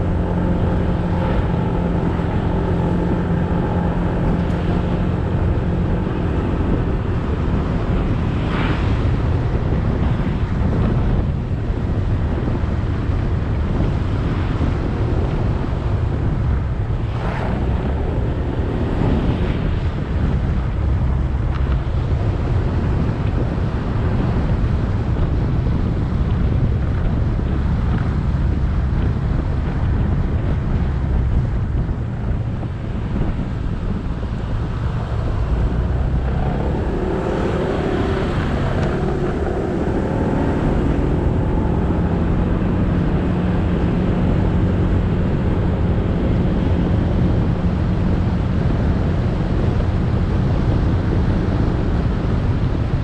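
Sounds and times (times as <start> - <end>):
road noise: 0.0 - 53.0
wind buffeting microphone: 0.0 - 53.0.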